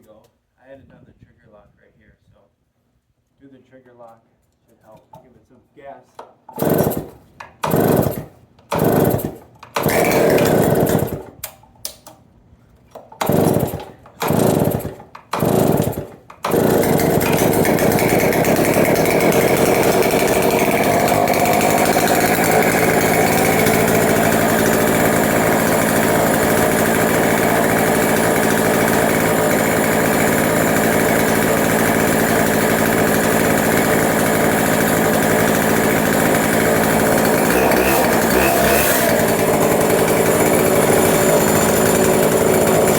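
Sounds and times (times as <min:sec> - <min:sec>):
starter rope pulls: 0:06.5 - 0:11.4, 0:12.9 - 0:42.9
chainsaw engine running: 0:06.6 - 0:11.4, 0:13.2 - 0:42.9.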